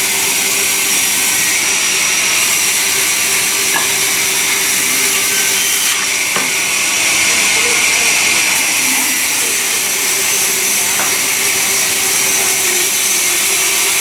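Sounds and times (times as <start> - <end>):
sawmill saw running: 0.0 - 14.0.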